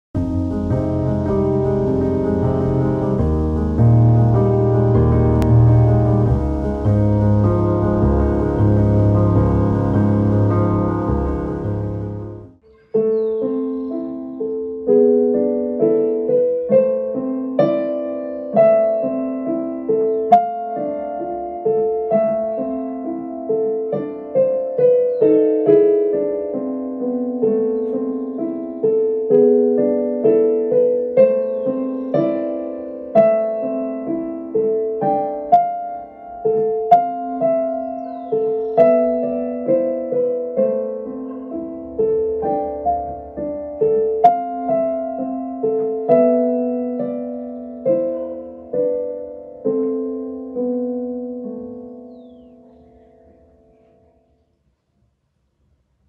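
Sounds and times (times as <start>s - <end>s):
solo piano melody: 0.2s - 54.6s.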